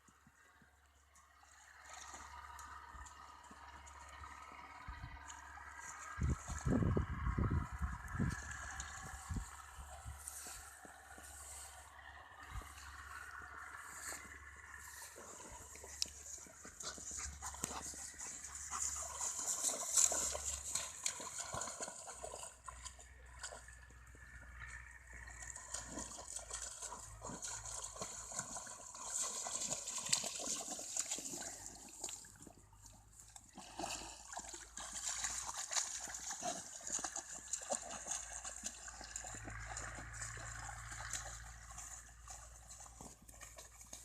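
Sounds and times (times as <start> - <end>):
water splashing and trickling: 0.0 - 44.0.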